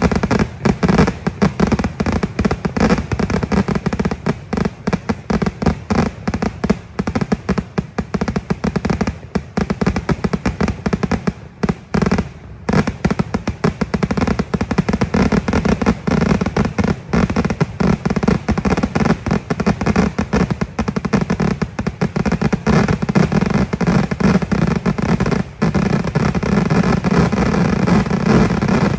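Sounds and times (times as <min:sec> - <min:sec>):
firecracker explosions: 0:00.0 - 0:28.9.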